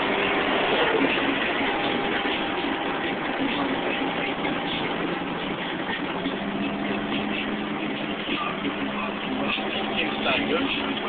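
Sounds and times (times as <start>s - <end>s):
low engine note: 0.0s - 11.0s
road noise inside car: 0.0s - 11.0s.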